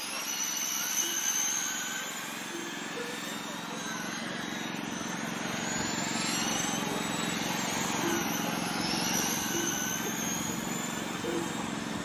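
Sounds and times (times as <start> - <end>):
model race cars motors whining: 0.0 - 12.0.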